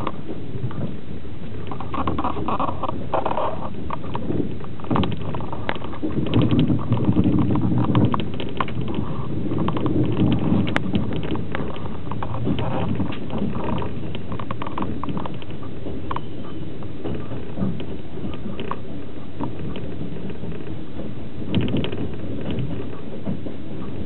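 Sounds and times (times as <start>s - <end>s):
low train rumble: 0.0s - 24.0s
wheels clattering on track: 0.0s - 24.0s.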